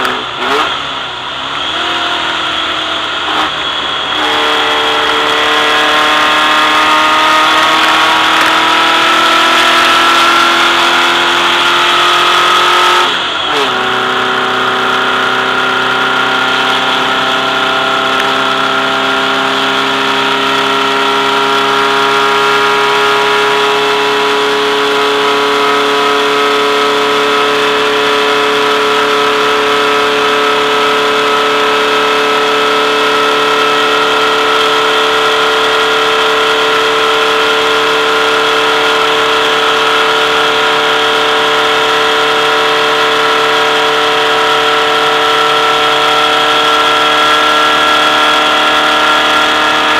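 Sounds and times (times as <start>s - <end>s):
race car engine running hard: 0.0s - 49.9s.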